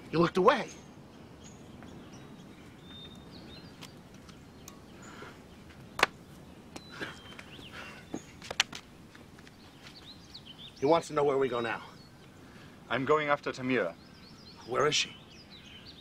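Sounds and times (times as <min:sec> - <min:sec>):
bird chirps: 0:00.0 - 0:16.0
low background hiss: 0:00.0 - 0:16.0.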